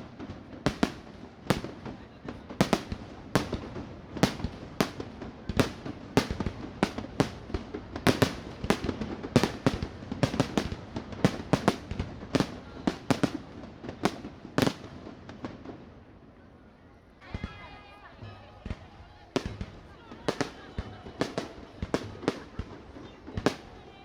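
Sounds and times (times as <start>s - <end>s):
fireworks bursting with sharp bangs: 0.0s - 16.3s, 17.2s - 24.0s.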